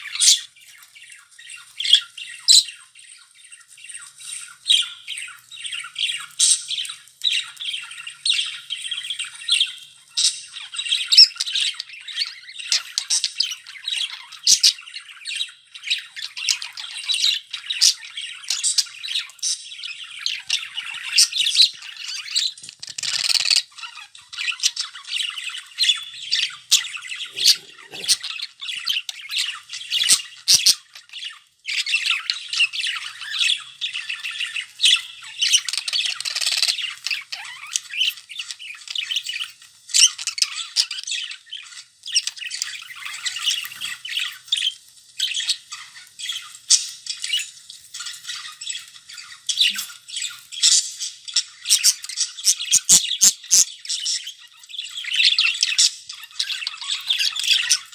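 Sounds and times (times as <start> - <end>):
budgerigars chattering and squawking: 0.0 - 57.9.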